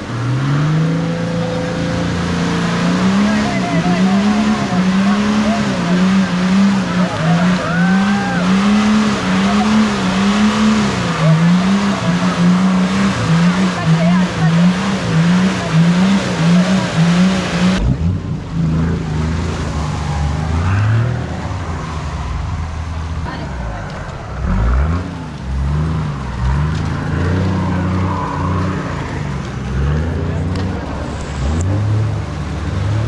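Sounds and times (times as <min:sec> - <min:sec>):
off-road engine working hard: 0:00.0 - 0:33.0.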